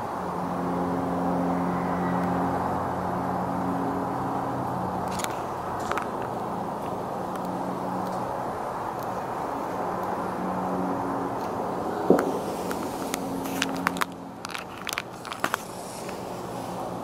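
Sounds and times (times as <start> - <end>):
background hum: 0.0 - 17.0.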